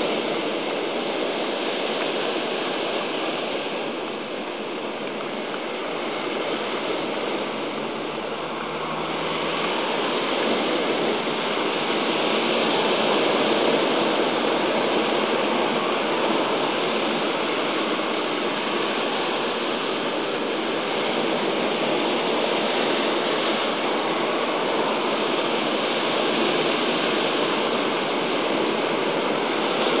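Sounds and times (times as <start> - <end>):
sea surf breaking over rocks: 0.0 - 30.0.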